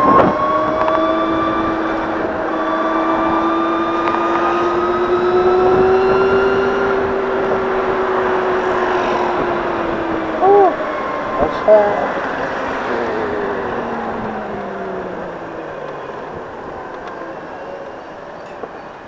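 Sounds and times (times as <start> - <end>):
electric scooter motor whining: 0.0 - 19.0
road and wind noise: 0.0 - 19.0.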